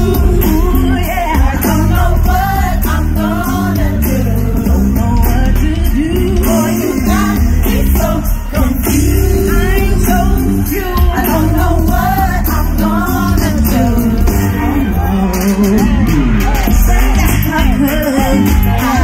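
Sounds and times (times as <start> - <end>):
band with heavy bass line: 0.0 - 19.0
vocal group singing: 0.0 - 19.0.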